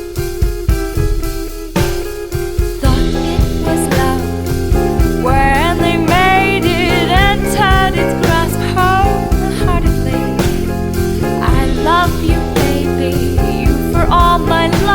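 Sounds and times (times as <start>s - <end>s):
song with guitar and drums: 0.0s - 14.9s
person singing: 2.8s - 14.9s.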